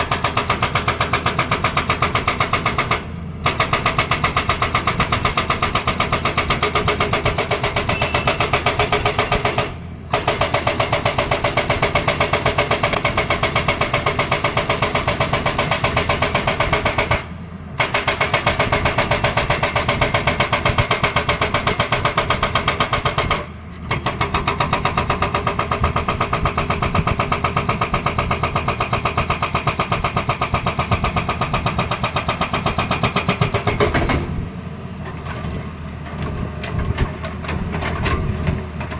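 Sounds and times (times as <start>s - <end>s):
hydraulic breaker hammering: 0.0s - 34.5s.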